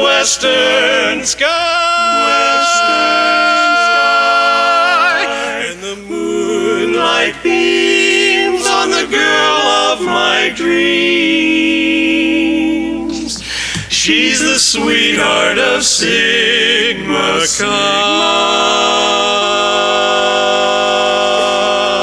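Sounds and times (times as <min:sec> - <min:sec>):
barbershop quartet singing a cappella: 0:00.0 - 0:22.0.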